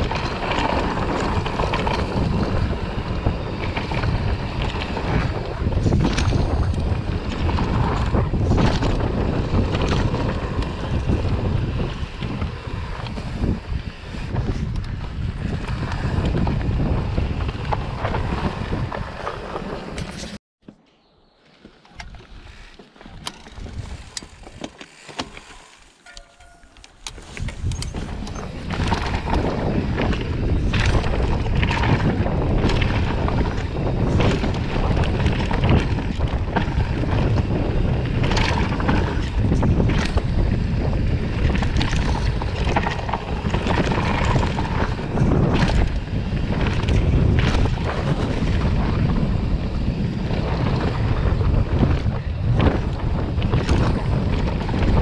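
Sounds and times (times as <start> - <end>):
bike rattling and knocking: 0.0 - 20.4, 21.6 - 55.0
tyres rumbling over dirt: 0.0 - 20.4, 22.2 - 55.0
wind buffeting microphone: 0.0 - 20.4, 22.0 - 24.7, 26.9 - 55.0.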